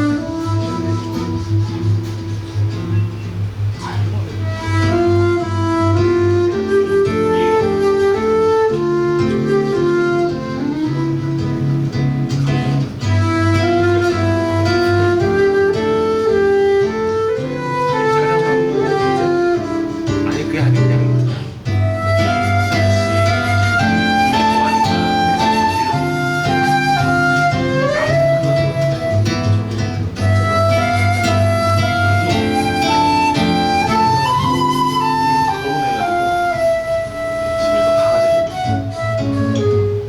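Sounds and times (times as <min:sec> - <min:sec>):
flute melody: 0:00.0 - 0:40.0.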